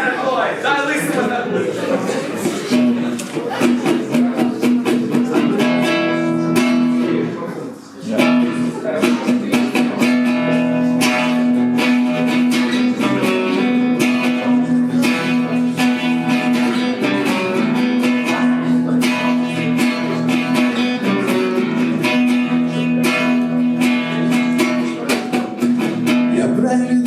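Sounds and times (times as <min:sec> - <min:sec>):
guitar strumming chords: 0:02.5 - 0:27.0.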